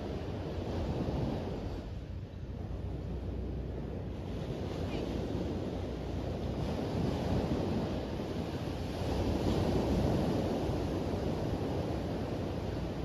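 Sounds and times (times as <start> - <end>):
ocean waves washing onto beach: 0.0 - 13.0
wind rumble on microphone: 0.0 - 13.0.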